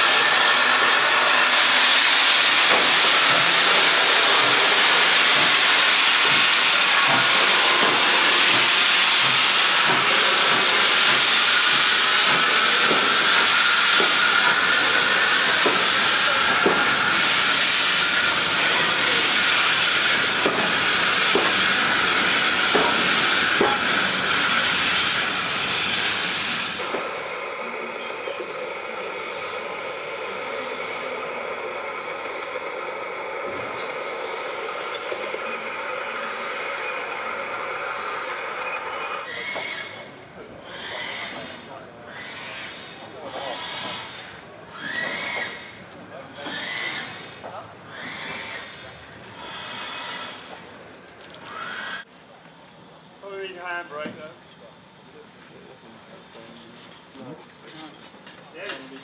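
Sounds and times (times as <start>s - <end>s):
loud hiss of escaping steam: 0.0s - 38.6s, 40.6s - 50.7s.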